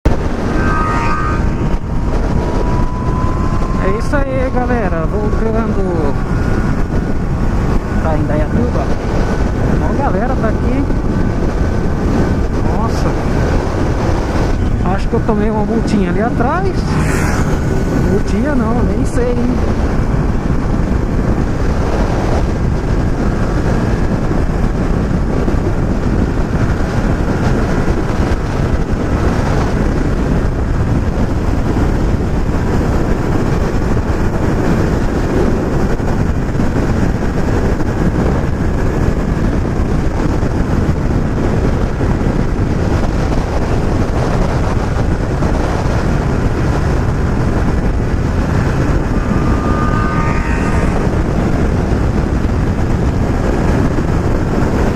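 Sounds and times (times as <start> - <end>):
motorcycle engine running: 0.0 - 54.9
wind rushing over microphone: 0.0 - 54.9.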